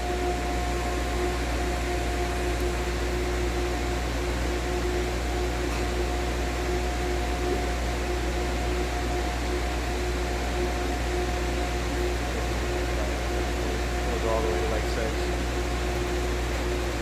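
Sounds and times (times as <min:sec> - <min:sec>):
refrigeration machinery humming: 0:00.0 - 0:17.0.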